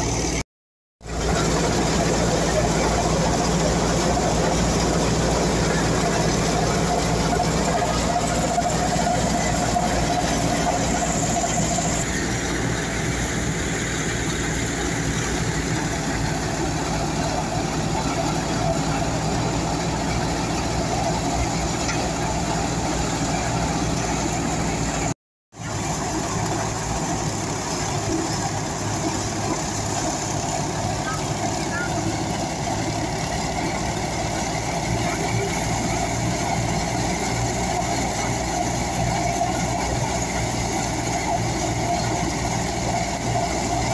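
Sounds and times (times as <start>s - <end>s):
thresher mechanical drone: 1.0s - 43.9s.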